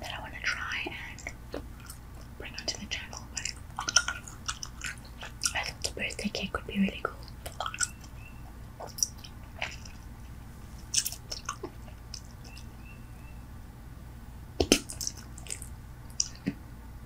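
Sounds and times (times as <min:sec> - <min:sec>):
bubble gum chewing: 0:00.5 - 0:13.0, 0:14.6 - 0:16.6.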